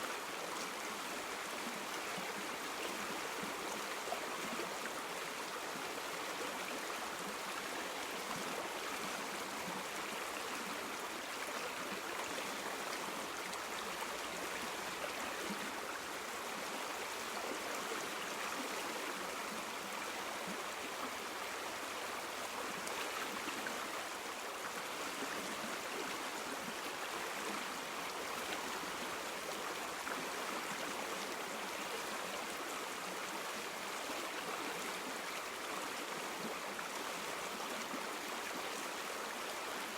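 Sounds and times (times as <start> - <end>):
river water flowing and babbling: 0.0 - 39.9.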